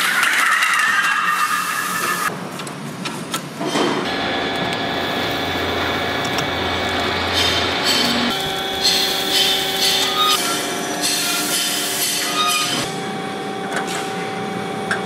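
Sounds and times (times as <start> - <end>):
workshop machine hum: 2.6 - 15.0.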